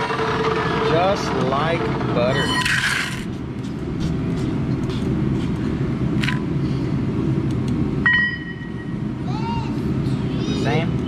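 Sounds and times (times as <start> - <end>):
low rumble of running vehicle: 0.0 - 11.0.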